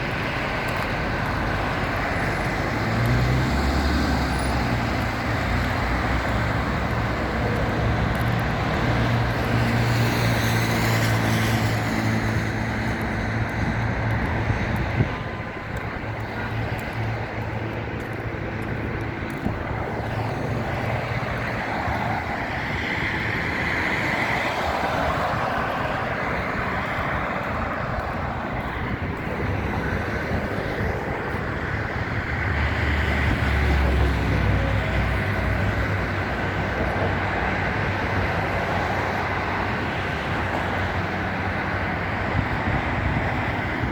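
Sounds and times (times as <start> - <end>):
low engine hum: 0.0 - 39.6
road traffic noise: 0.0 - 43.9.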